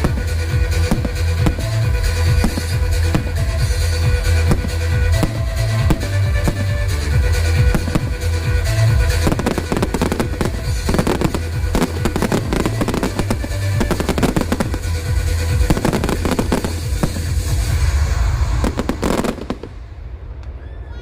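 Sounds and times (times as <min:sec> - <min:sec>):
loud music: 0:00.0 - 0:20.2
fireworks bangs and crackling: 0:00.0 - 0:20.6.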